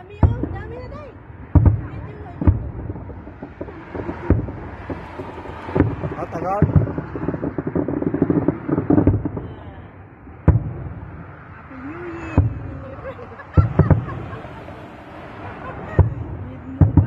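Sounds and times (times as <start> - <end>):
fireworks exploding: 0.0 - 17.0.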